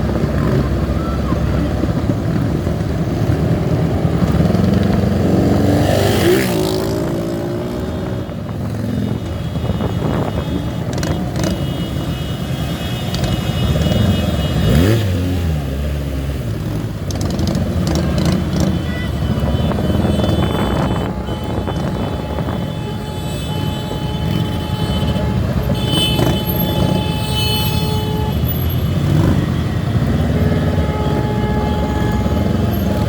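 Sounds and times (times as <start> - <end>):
motorcycle engines revving: 0.0 - 33.0.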